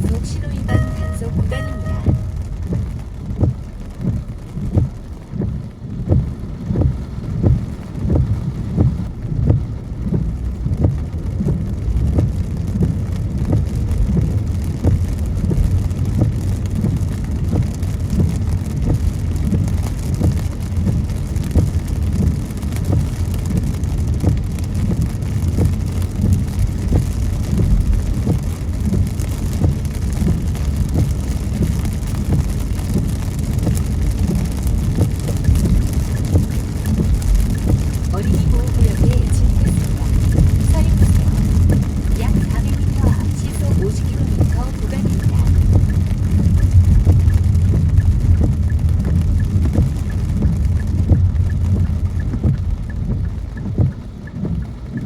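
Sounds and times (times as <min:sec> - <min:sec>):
car tyres on wet road: 0:00.0 - 0:55.0
rain pattering on car: 0:00.0 - 0:55.0.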